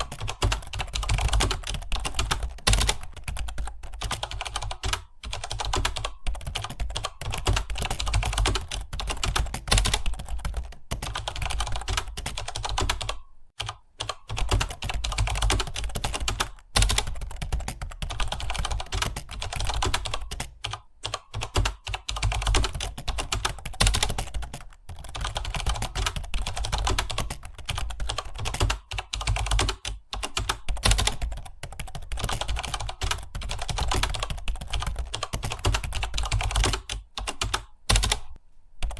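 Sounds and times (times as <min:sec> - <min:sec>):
fast typing on computer keyboard: 0:00.0 - 0:38.9.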